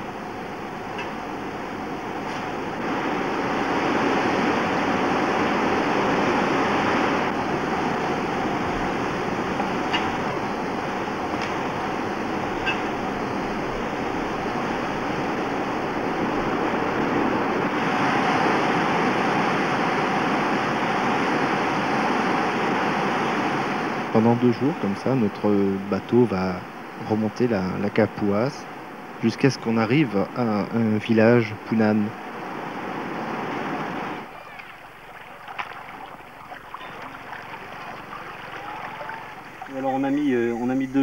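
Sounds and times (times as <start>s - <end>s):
river rapids rushing: 0.0s - 25.0s, 32.1s - 40.7s.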